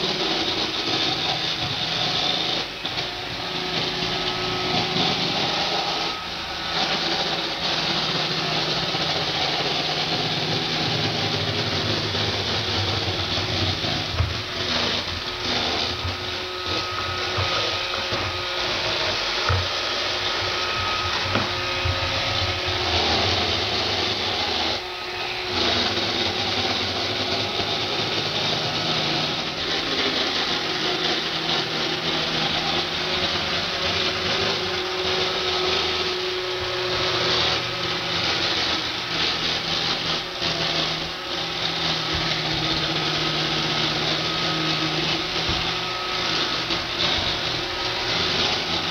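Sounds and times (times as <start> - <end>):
robot vacuum motor whirring: 0.0 - 48.9.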